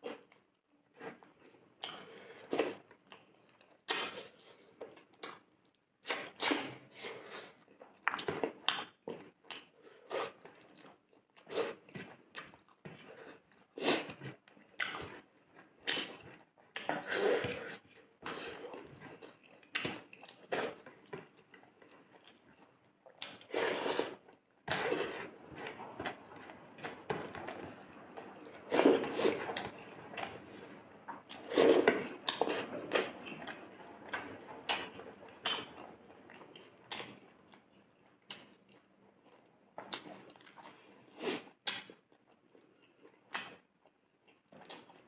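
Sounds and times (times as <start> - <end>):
wet chewing and lip smacking: 7.7 - 45.0.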